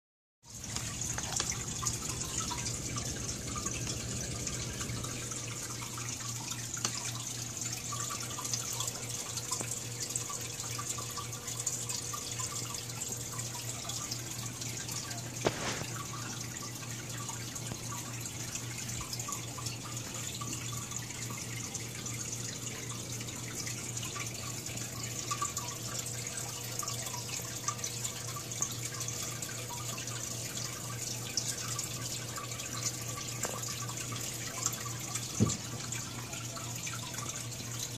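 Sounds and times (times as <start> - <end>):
water trickling and splashing: 0.4 - 37.9
low steady hum: 0.5 - 37.9.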